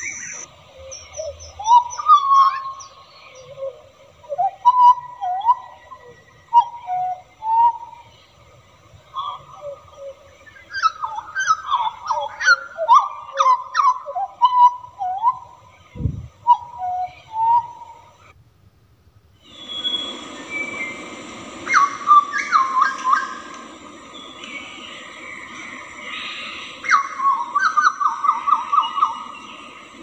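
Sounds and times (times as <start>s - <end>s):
bird singing fluting whistles: 0.0s - 8.3s, 9.2s - 15.6s, 16.4s - 18.1s, 19.4s - 21.0s, 21.6s - 29.7s
steady hiss: 0.0s - 30.0s.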